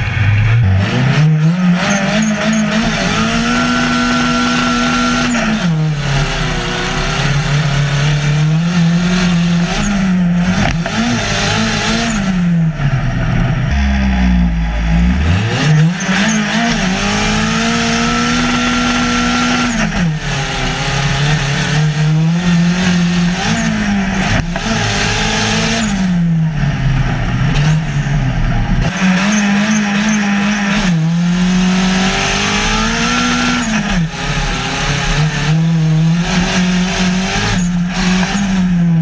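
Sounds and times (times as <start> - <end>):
race car engine accelerating: 0.0 - 39.0.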